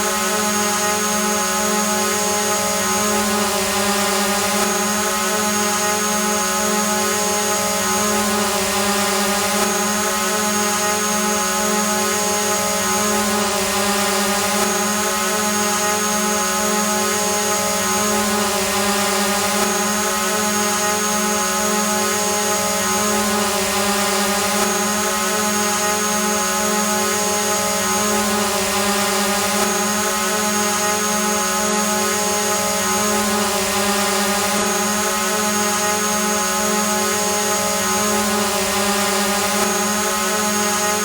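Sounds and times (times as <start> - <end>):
drone propellers buzzing: 0.0 - 41.0.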